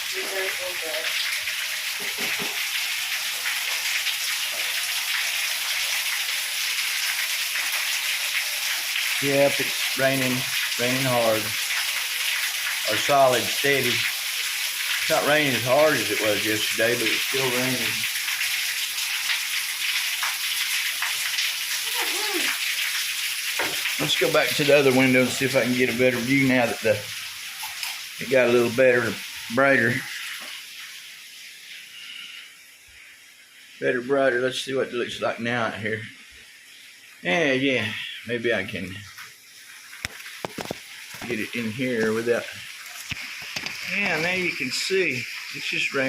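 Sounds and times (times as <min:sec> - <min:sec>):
heavy rain falling: 0:00.0 - 0:32.2, 0:39.8 - 0:46.0.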